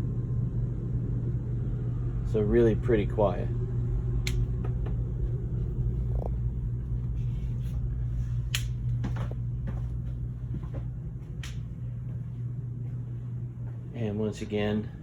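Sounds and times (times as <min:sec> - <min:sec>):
air conditioners humming: 0:00.0 - 0:15.0.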